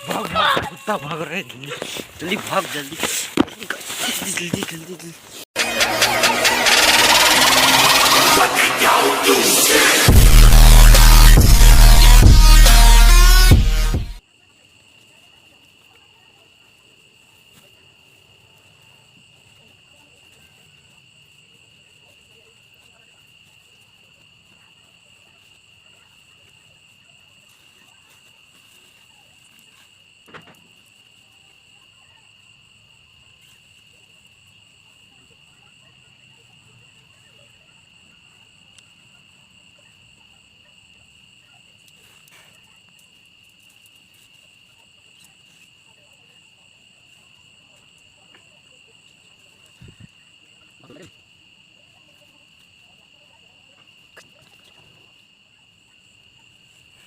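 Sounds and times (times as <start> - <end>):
crickets chirring: 0.0 - 10.1, 14.3 - 57.0.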